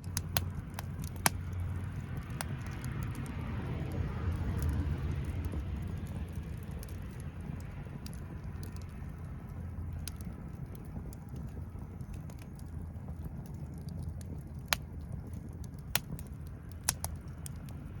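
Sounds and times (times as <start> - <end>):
campfire crackling: 0.0 - 18.0
fire popping: 0.0 - 18.0
steady low rumble: 0.0 - 18.0.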